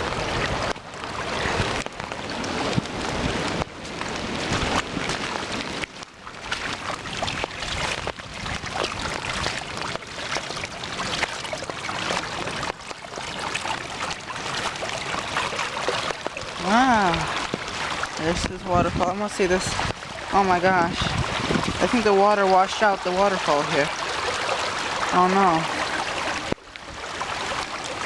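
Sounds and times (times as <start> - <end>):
floodwater rushing through river: 0.0 - 28.0.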